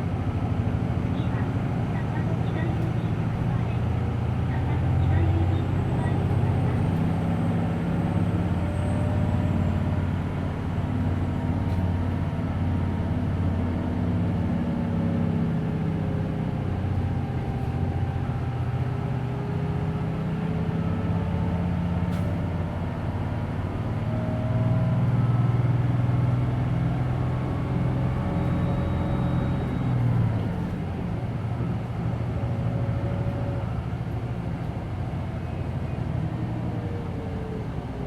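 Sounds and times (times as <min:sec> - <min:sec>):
bus engine running: 0:00.0 - 0:38.0.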